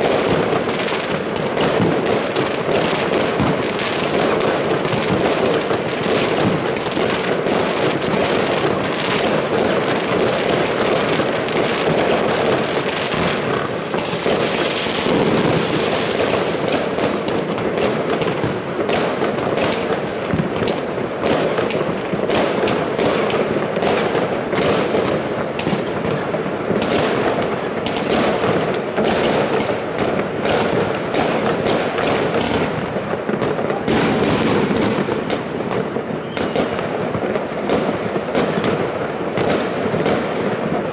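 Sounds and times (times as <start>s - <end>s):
firecracker bangs and pops: 0.0s - 40.9s
fireworks crackling: 0.0s - 40.9s.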